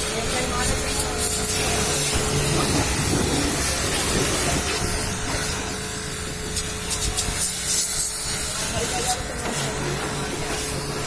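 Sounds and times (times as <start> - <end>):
pressure washer spraying water: 0.0 - 11.0
steady hum: 0.0 - 11.0.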